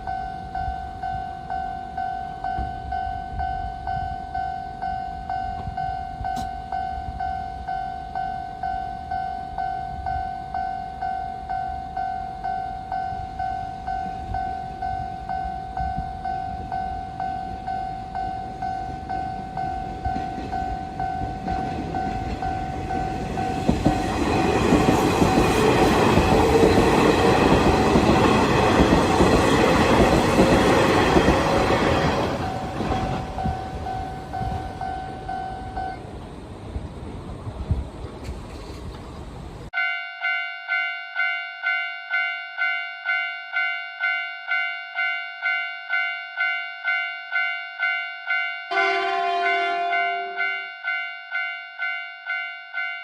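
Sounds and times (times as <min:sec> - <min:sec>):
railroad crossing bell ringing: 0:00.0 - 0:36.1, 0:39.7 - 0:53.0
electric train passing: 0:00.0 - 0:53.0.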